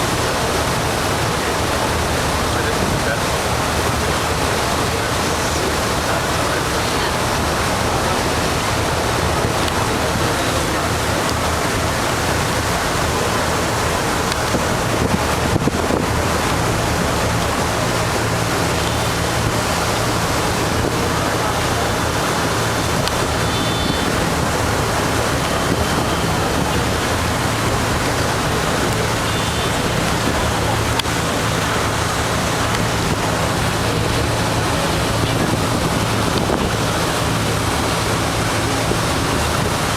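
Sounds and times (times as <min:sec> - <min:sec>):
ferry engine drone: 0:00.0 - 0:39.9
rush of wind and water: 0:00.0 - 0:39.9
wind buffeting microphone: 0:00.0 - 0:39.9.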